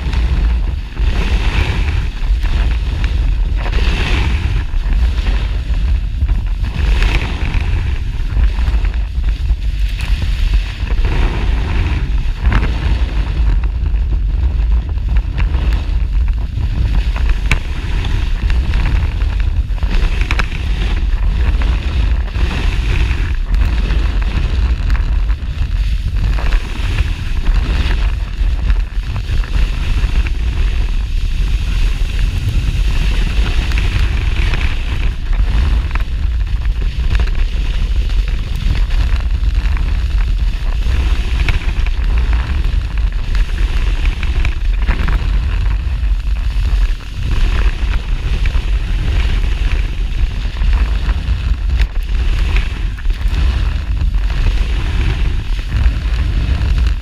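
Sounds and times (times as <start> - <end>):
snowboard scraping on snow: 0.0 - 57.0
wind buffeting microphone: 0.0 - 57.0.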